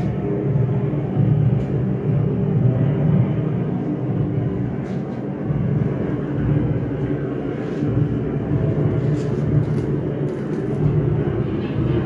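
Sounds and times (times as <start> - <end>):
aircraft engines droning overhead: 0.0 - 12.0.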